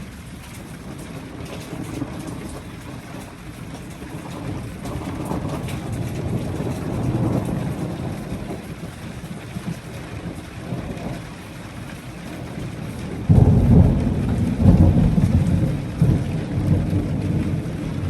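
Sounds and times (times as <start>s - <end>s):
rain pattering: 0.0s - 18.0s
thunder rumbling: 0.0s - 18.0s.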